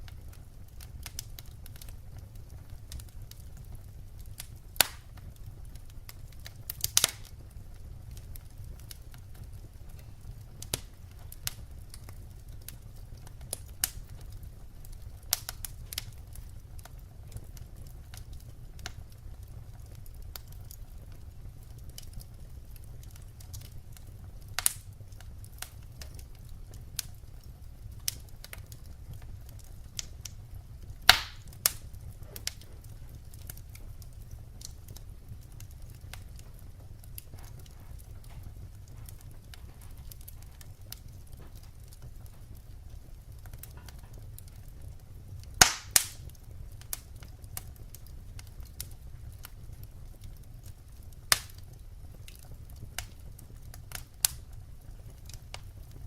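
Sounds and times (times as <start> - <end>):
sharp pops of fire: 0.0 - 56.0
wood fire crackling: 0.0 - 56.0.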